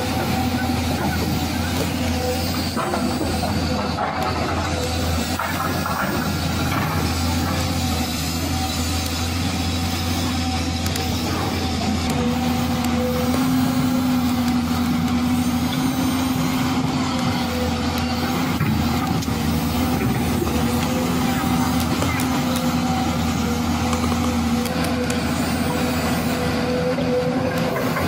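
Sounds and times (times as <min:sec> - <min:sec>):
toy excavator motor whining: 0:00.0 - 0:28.0.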